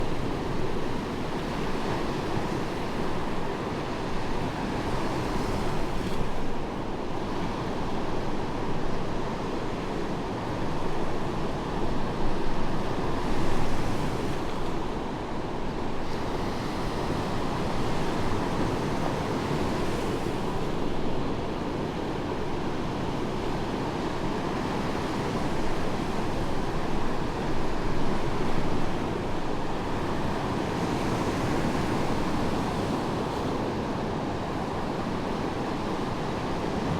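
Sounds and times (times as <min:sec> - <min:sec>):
waves breaking on beach: 0:00.0 - 0:36.9.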